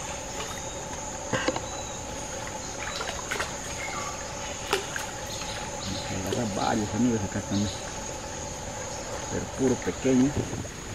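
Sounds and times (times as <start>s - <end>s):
insects droning: 0.0s - 10.9s.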